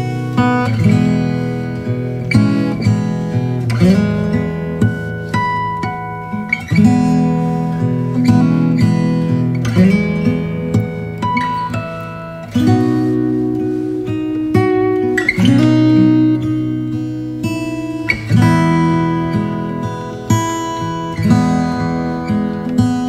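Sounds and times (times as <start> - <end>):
plucked-string instrumental music: 0.0 - 23.0.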